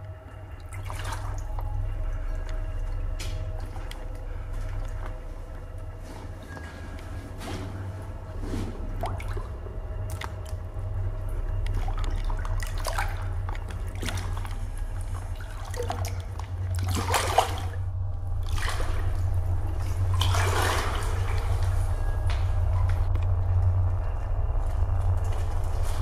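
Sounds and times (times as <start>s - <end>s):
water splashing and trickling: 0.0s - 23.7s
steady low rumble: 0.0s - 26.0s.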